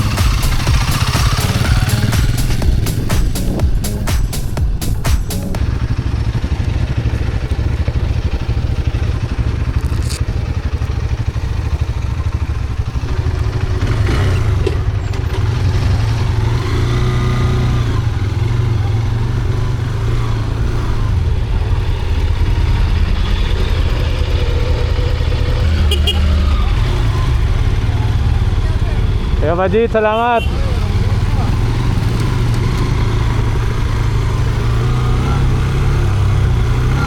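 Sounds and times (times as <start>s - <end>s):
motorcycle engine running: 0.0s - 37.0s
road and wind noise: 0.0s - 37.0s.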